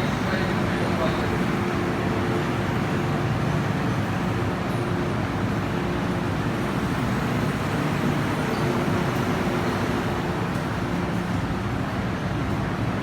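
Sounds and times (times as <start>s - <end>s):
train car low rumble: 0.0s - 13.0s.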